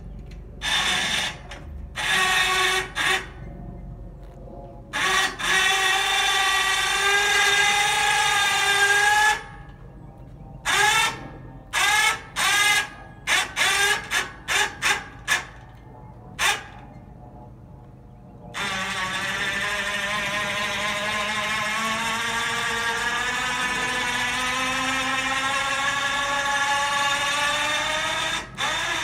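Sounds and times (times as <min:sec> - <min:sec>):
electric winch motor whining: 0:00.0 - 0:03.6, 0:04.2 - 0:09.9, 0:10.6 - 0:17.2, 0:18.5 - 0:29.0.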